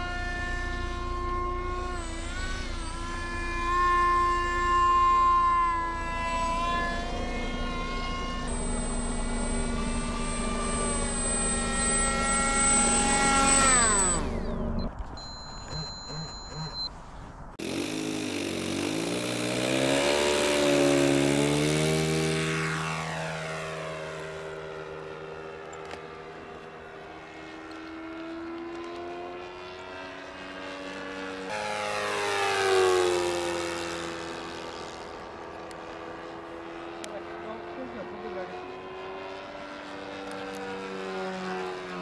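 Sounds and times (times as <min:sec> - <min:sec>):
model airplane propeller flyby: 0:00.0 - 0:15.9, 0:17.6 - 0:42.0.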